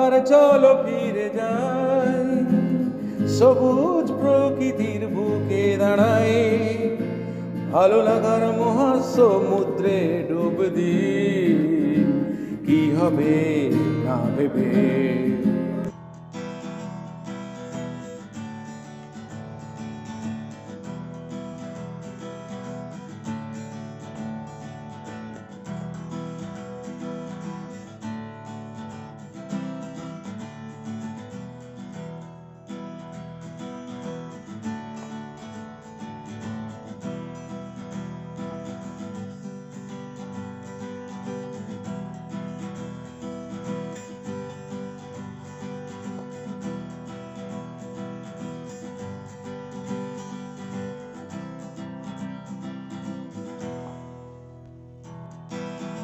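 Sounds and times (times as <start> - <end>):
strummed acoustic guitar: 0.0 - 56.0.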